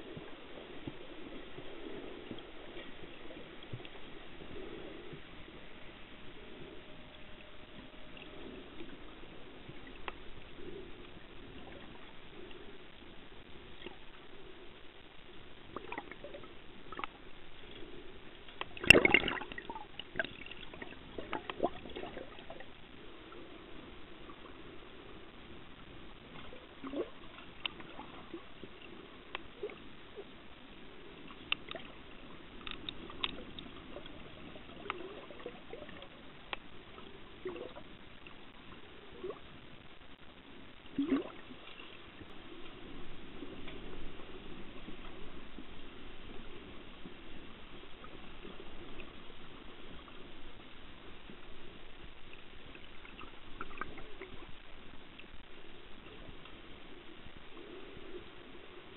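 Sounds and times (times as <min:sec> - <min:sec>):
underwater gurgling: 0:00.0 - 0:58.9.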